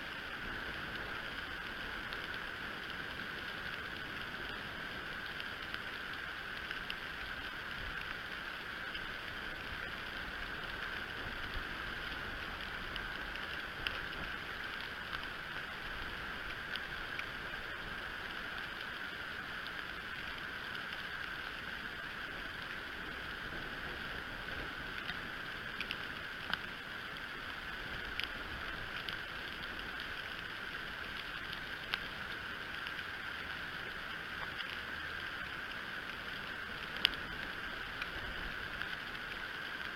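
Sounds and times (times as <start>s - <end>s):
faint clicks and ticks: 0.0s - 39.9s.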